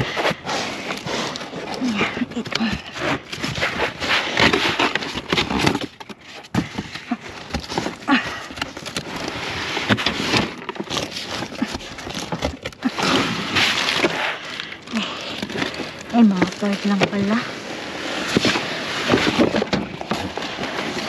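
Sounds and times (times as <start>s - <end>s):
cardboard boxes rustling and scraping: 0.0s - 21.0s.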